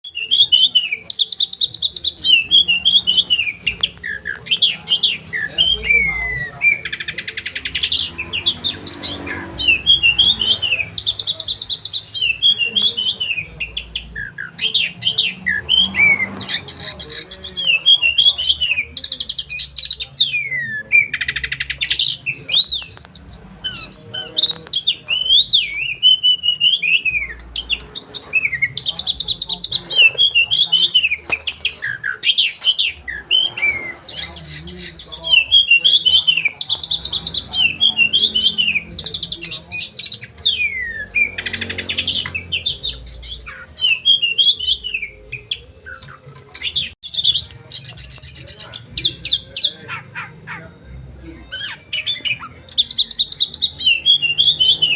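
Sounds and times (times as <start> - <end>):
bird singing whistled song: 0.0 - 49.7, 51.5 - 54.9.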